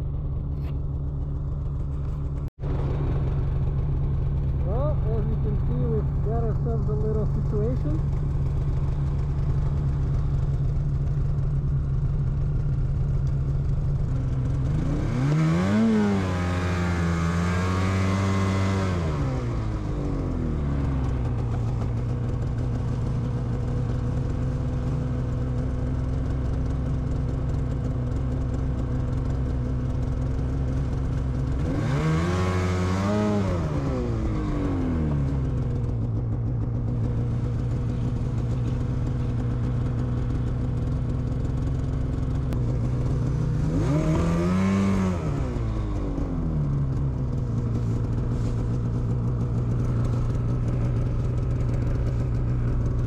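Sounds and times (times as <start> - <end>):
snowmobile engine idling and revving: 0.0 - 53.0.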